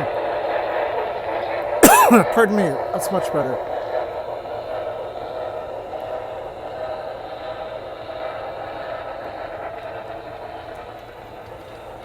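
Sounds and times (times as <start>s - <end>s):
model steam locomotive sounds: 0.0s - 12.0s.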